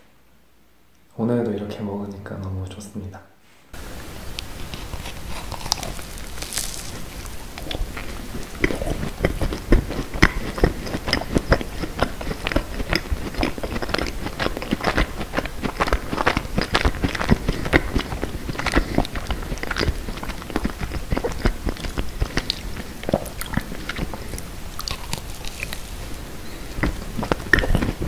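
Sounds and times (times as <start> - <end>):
crisp chewing crackles: 3.8 - 28.0
bite into macaron: 4.4 - 28.0.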